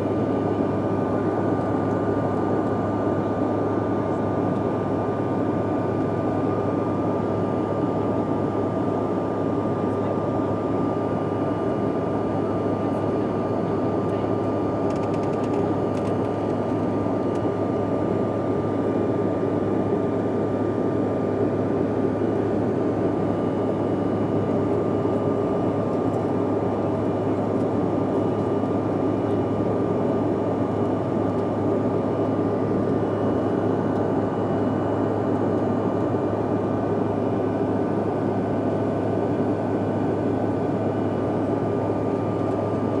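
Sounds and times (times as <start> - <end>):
airliner cabin engine rush: 0.0 - 43.0
thin steady whine: 0.0 - 43.0.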